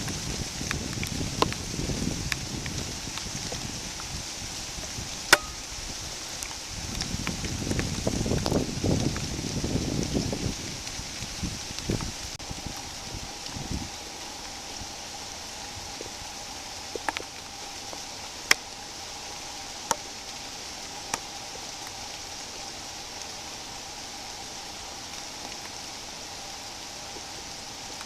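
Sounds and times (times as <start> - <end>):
light rain hissing: 0.0 - 28.0.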